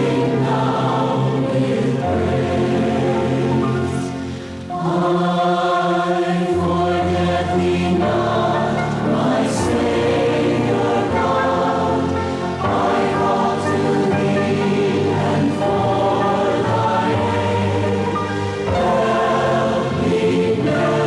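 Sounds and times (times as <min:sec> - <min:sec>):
congregation singing: 0:00.0 - 0:21.0.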